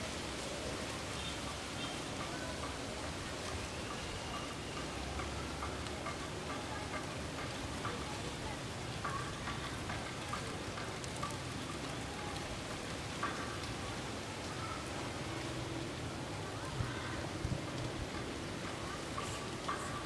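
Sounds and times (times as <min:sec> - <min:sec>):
wind rustling cloth and fronds: 0:00.0 - 0:20.0.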